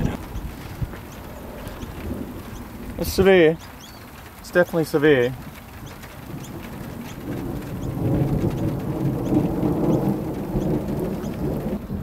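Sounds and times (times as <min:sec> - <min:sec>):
rolling rumble of thunder: 0:00.0 - 0:12.0.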